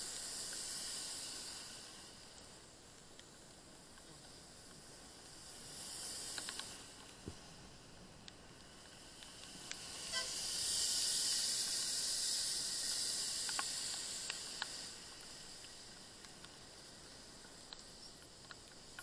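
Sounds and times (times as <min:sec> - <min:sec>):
tyres hissing on wet road: 0:00.0 - 0:19.0.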